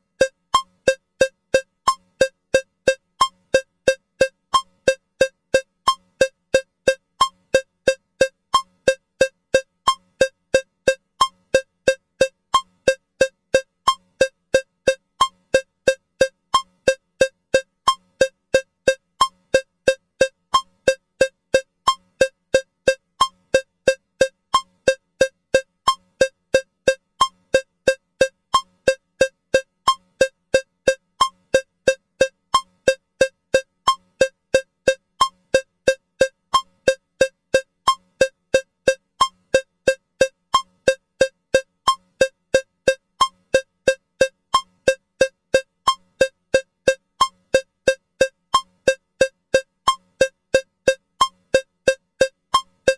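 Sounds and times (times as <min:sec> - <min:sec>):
cowbell metronome ticking: 0:00.0 - 0:52.9.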